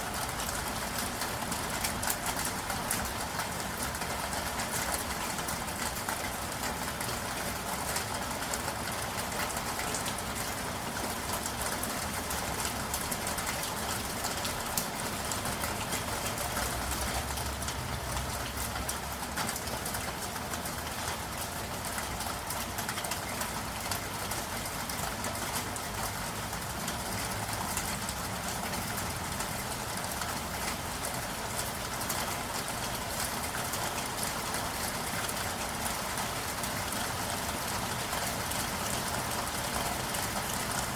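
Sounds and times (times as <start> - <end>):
rain on hard surfaces: 0.0 - 40.9.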